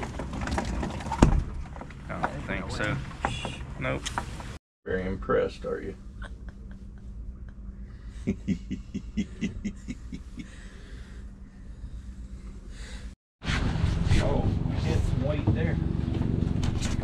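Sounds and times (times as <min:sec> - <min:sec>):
boat engine hum: 0:00.0 - 0:12.8, 0:13.7 - 0:17.0.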